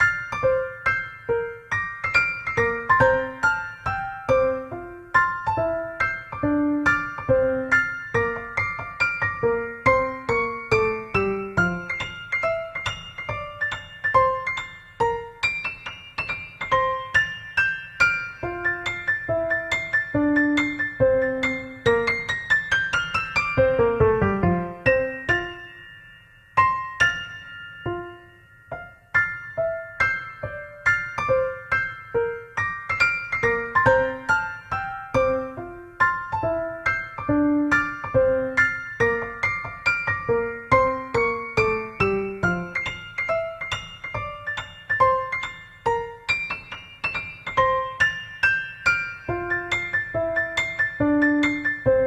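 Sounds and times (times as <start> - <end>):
solo piano music: 0.0 - 52.0.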